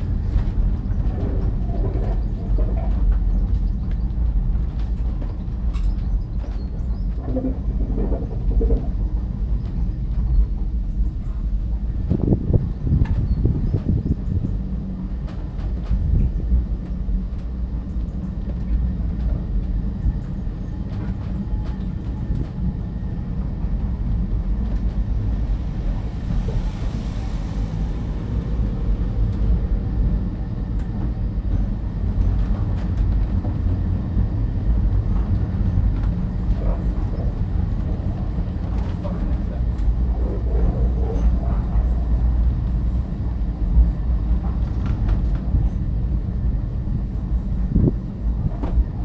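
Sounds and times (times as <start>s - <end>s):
tram car rumbling on rails: 0.0s - 49.0s.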